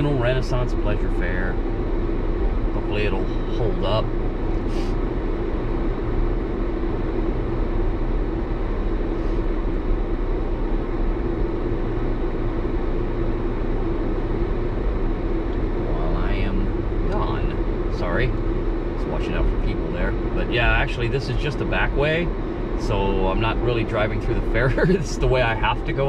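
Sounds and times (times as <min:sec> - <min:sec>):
constant droning tone: 0:00.0 - 0:26.0
vehicle engine and road hum: 0:00.0 - 0:26.0.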